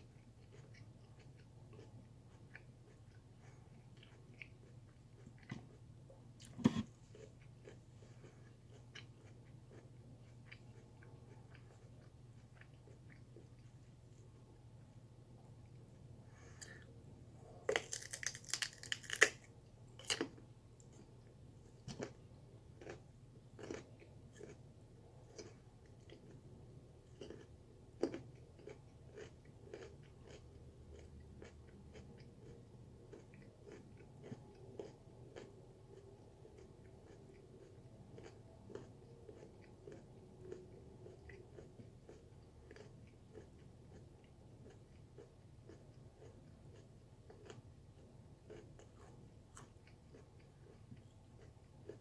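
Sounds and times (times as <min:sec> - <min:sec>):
chewing raw sweet potato: 0:00.0 - 0:52.0.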